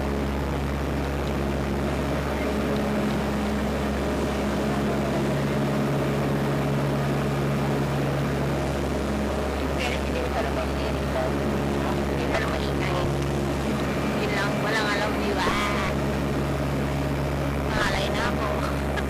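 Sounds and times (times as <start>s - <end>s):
propeller airplane engines droning: 0.0s - 19.0s.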